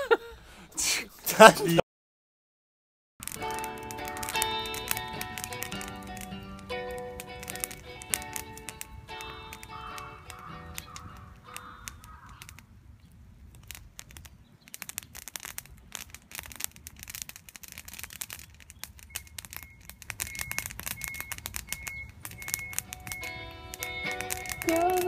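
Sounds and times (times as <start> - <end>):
fire crackling and popping: 3.2 - 25.0.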